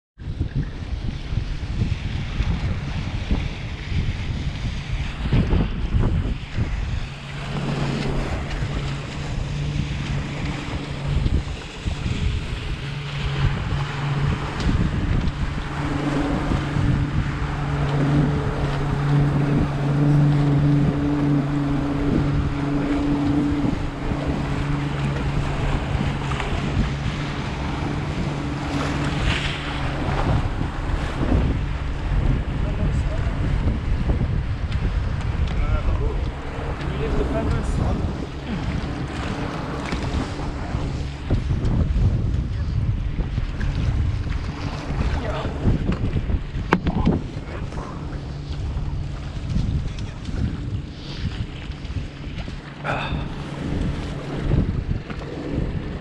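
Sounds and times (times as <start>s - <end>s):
boat engine humming: 0.2s - 56.0s
wind buffeting microphone: 0.2s - 56.0s.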